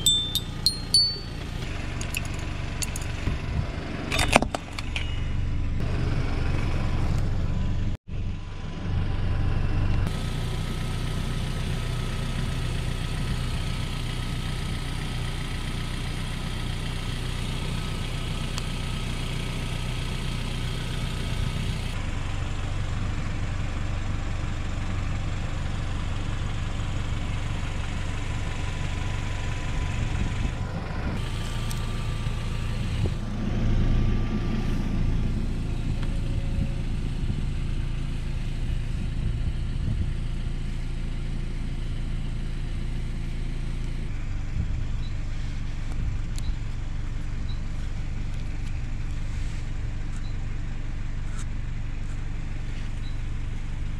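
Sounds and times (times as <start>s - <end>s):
car engine idling: 5.2s - 53.9s.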